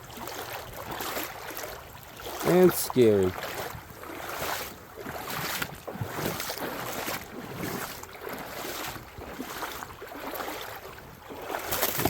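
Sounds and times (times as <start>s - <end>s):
flowing water: 0.0s - 12.0s
footsteps in a creek bed: 0.0s - 12.0s.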